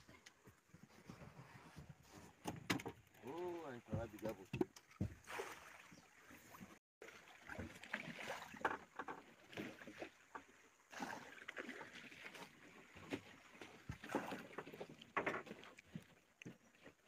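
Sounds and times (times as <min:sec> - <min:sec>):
water noise: 0:03.0 - 0:17.0.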